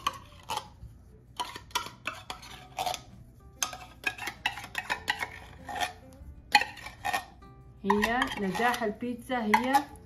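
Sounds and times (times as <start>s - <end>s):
metal spoon scraping container: 0.0s - 10.0s.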